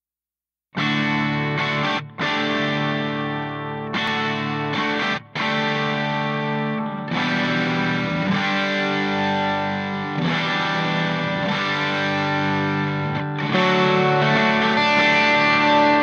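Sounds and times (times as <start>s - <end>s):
distorted electric guitar chords: 0.8s - 16.0s.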